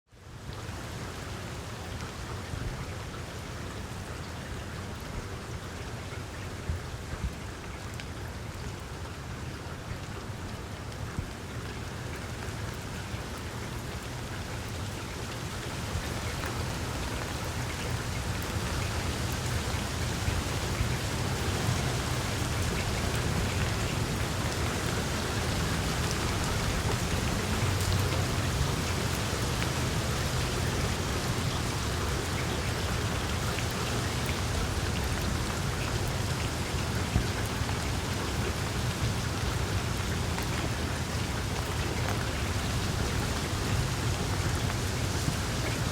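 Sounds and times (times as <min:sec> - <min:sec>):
wind: 0:00.0 - 0:45.9
steady rain falling: 0:00.1 - 0:45.9.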